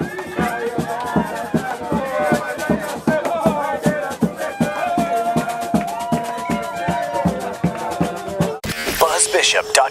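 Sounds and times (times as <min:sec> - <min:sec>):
people singing: 0:00.0 - 0:08.7
samba drum beat: 0:00.0 - 0:09.9.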